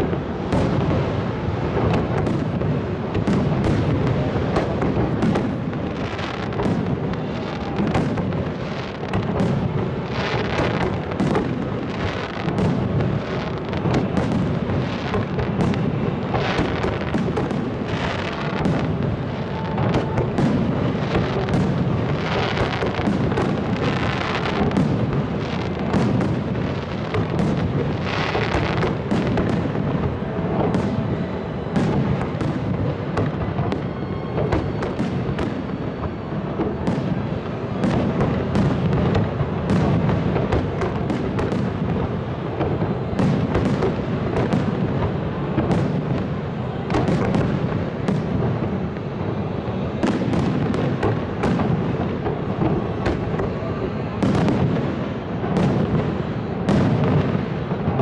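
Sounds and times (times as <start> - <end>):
fireworks bangs: 0.0 - 58.0
fireworks hissing crackle: 0.0 - 58.0.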